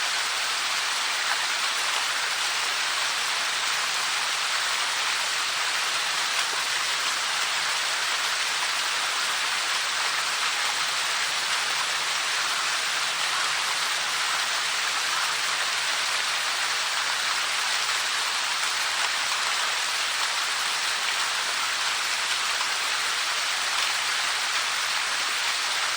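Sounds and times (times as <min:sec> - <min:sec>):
waterfall splashing: 0:00.0 - 0:25.9.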